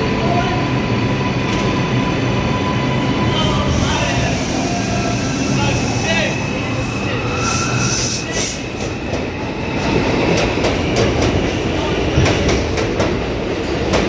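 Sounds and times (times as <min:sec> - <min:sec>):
train high whine: 0:00.0 - 0:12.6
train rumbling: 0:00.0 - 0:14.0.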